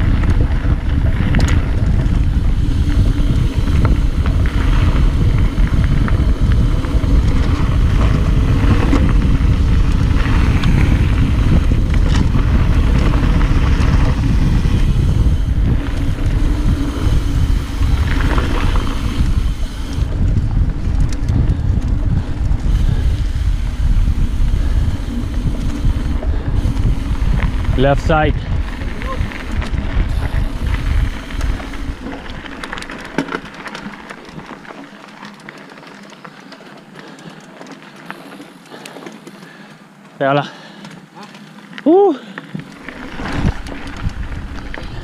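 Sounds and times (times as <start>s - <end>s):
wind rushing over microphone: 0.0s - 34.8s, 42.4s - 45.0s
bike knocks and rattles: 0.0s - 41.8s
bike tyres rumbling on dirt: 0.0s - 45.0s.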